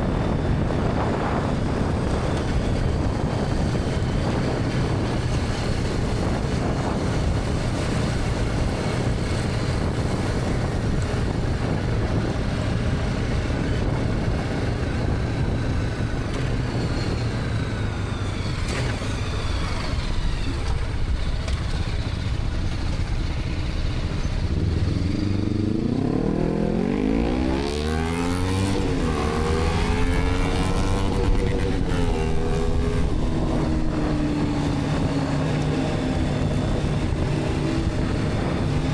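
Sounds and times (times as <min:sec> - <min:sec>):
motorcycle engine accelerating: 0:00.0 - 0:38.9
road noise: 0:00.0 - 0:38.9
wind rush: 0:00.0 - 0:38.9.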